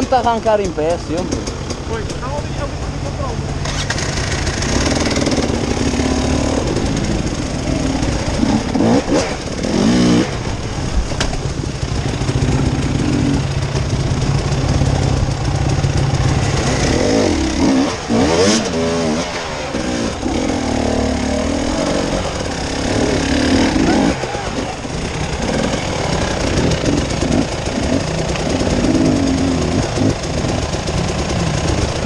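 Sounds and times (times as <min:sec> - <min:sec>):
off-road motorcycle engine revving: 0:00.0 - 0:32.0.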